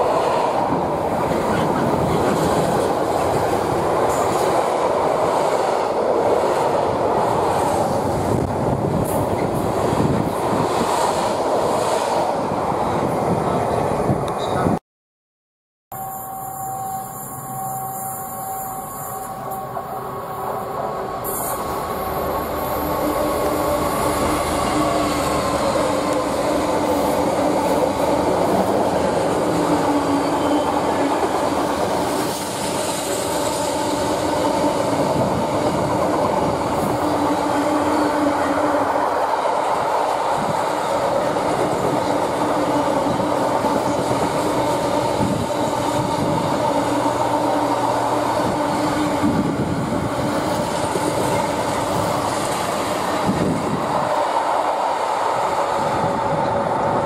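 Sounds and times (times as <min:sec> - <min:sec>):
diesel locomotive passing: 0:00.0 - 0:14.7, 0:16.0 - 0:57.0.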